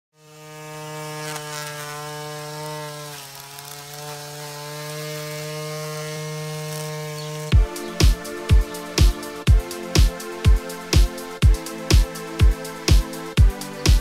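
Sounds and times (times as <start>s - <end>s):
small electric motor buzzing: 0.1s - 14.0s.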